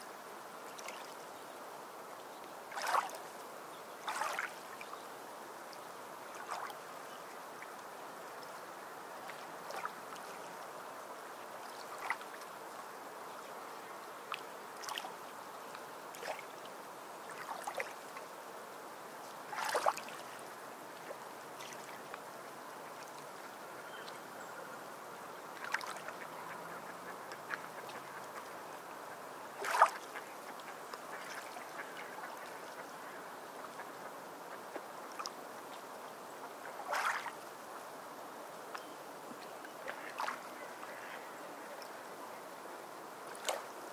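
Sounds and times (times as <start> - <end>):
soft steady hiss: 0.0 - 43.9.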